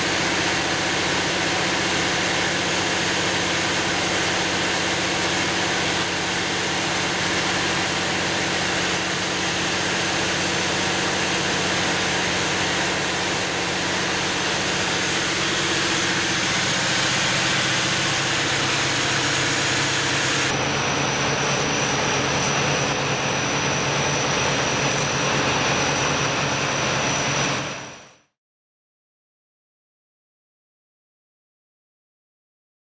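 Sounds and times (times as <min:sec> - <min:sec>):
diesel generator engine drone: 0:00.0 - 0:27.8
rush of cooling air: 0:00.0 - 0:27.8
steady high whine: 0:00.0 - 0:28.1.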